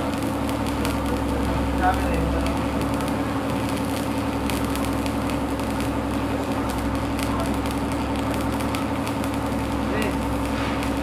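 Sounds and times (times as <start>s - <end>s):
welding arc crackle and sizzle: 0.0s - 11.0s.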